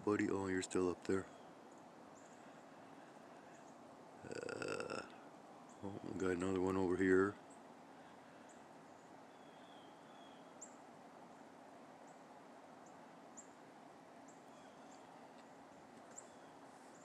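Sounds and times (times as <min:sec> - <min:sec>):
quiet outdoor hiss: 0:00.0 - 0:17.0.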